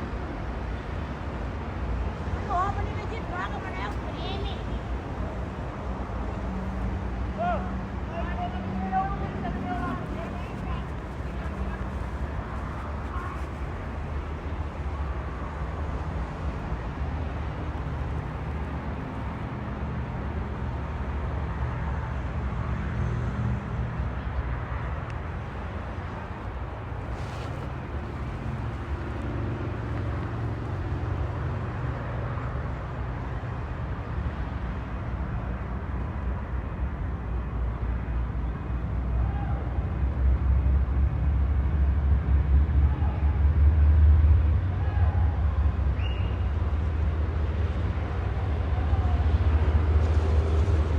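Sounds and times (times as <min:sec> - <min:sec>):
diesel locomotive engine rumbling: 0:00.0 - 0:35.5, 0:38.9 - 0:50.9.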